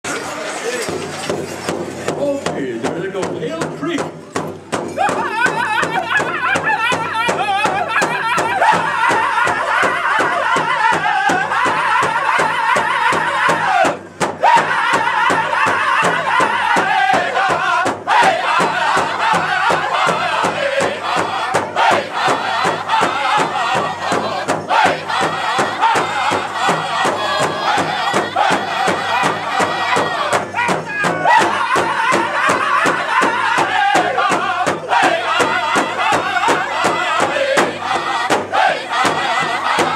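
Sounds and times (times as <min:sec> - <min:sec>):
large drum beating: 0:00.9 - 0:39.9
men singing in high voices: 0:05.0 - 0:39.9.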